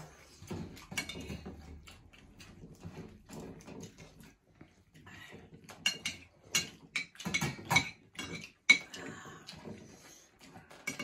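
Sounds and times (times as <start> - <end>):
people chewing: 0.0 - 11.0.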